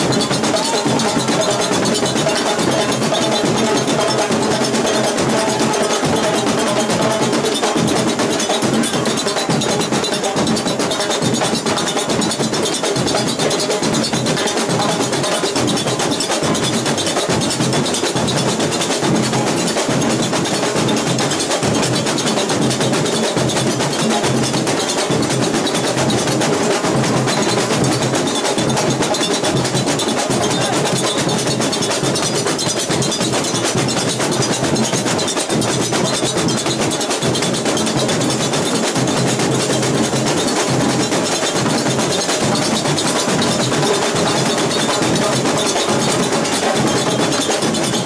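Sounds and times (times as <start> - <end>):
bass drums: 0.0 - 10.8, 13.9 - 48.0
snare drums: 0.0 - 48.0.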